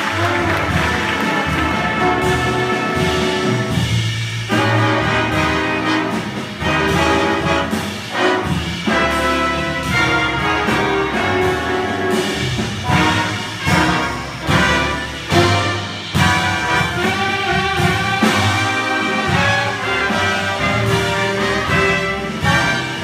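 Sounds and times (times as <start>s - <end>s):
brass chords: 0.0s - 23.0s
jazz big band playing: 0.0s - 23.0s.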